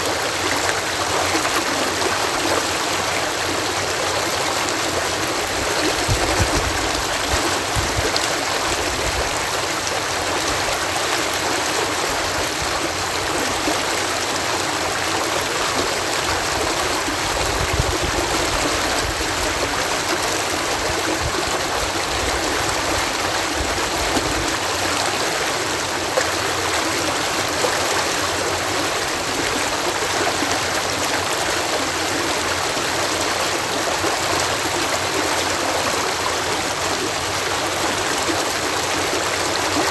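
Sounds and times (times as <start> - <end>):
water rushing over canal lock: 0.0 - 39.9.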